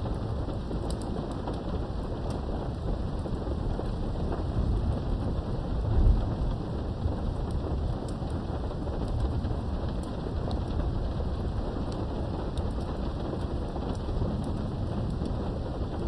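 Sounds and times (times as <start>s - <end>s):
low rumbling thunder: 0.0s - 16.0s
steady rain: 0.0s - 16.0s
light drips ticking: 0.1s - 5.4s, 6.0s - 16.0s.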